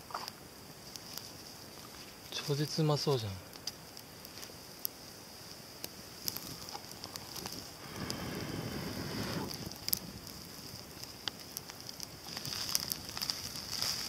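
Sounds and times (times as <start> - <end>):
campfire crackling and popping: 0.0 - 14.0
steady hiss: 0.0 - 14.0.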